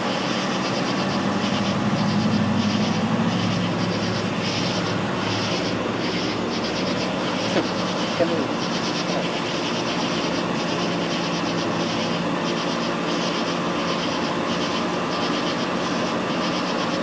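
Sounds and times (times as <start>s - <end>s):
car engine idling: 0.0s - 17.0s
insects chirping: 0.0s - 17.0s.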